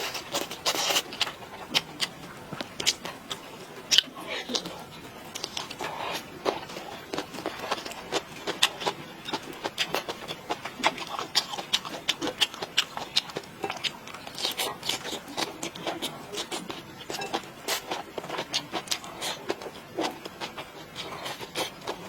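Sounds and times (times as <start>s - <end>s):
person chewing and smacking: 0.0s - 22.0s.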